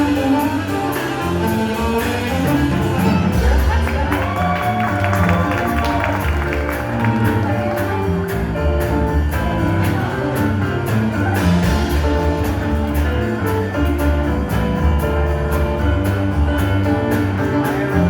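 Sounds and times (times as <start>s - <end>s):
instrumental band music: 0.0s - 18.0s.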